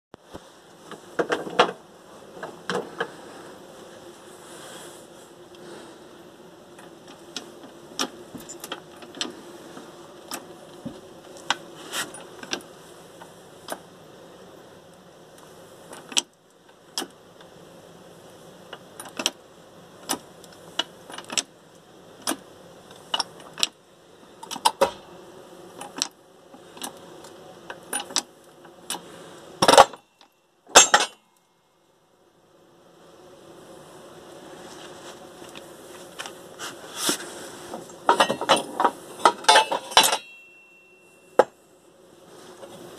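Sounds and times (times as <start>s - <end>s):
steady buzzing hum: 0.2s - 42.9s.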